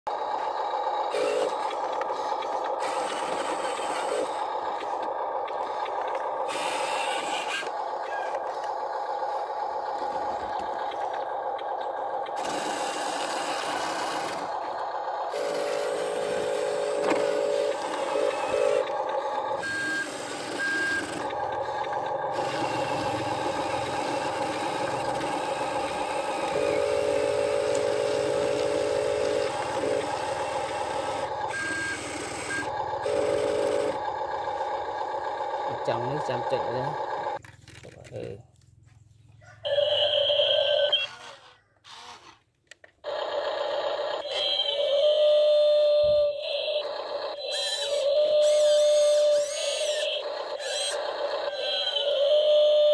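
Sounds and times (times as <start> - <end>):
toy truck motor whining: 0.1 - 37.9, 39.4 - 52.9.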